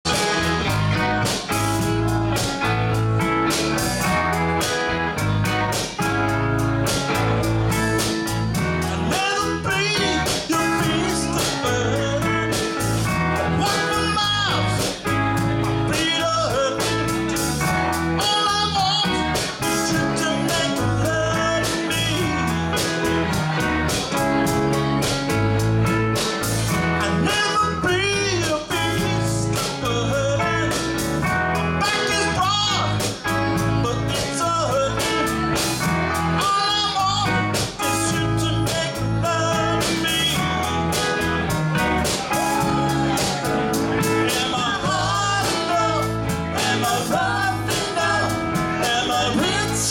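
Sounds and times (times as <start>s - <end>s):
bass guitar: 0.0s - 49.9s
drums: 0.0s - 49.9s
electric guitar: 0.1s - 49.9s.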